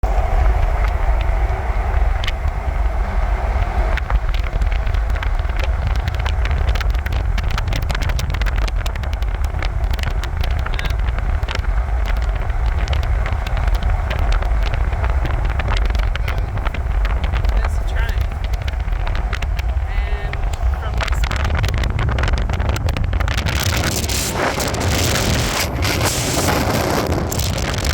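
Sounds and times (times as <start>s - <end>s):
car road and engine rumble: 0.0s - 27.9s
small ticks and clicks: 0.4s - 2.8s, 3.5s - 27.9s.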